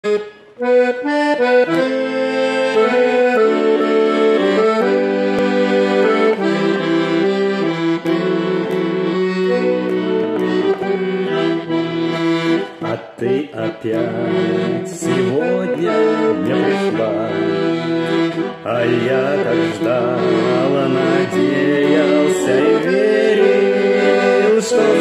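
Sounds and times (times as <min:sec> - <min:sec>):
button accordion melody: 0:00.0 - 0:25.0.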